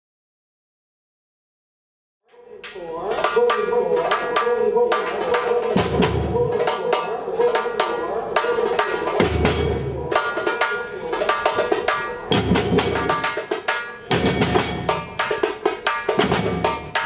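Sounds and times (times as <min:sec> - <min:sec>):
hand percussion strikes: 0:02.4 - 0:17.0.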